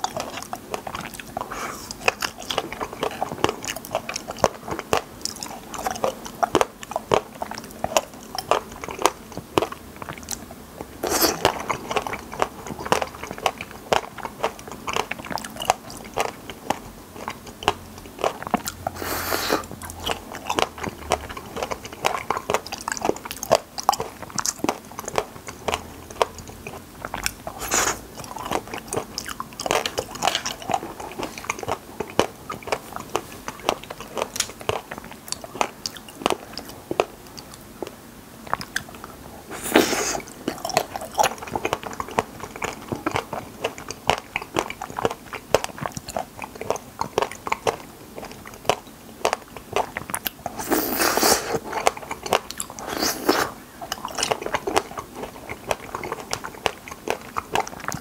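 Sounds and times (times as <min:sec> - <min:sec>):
wet chewing with mouth clicks: 0:00.0 - 0:58.0.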